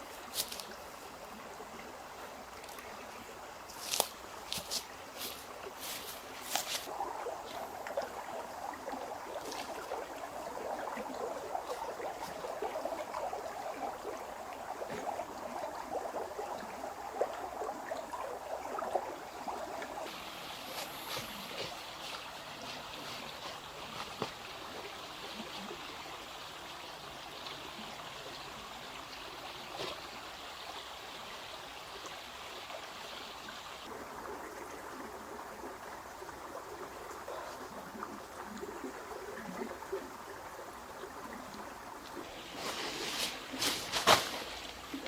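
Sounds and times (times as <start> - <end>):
trickling water: 0.0 - 45.0.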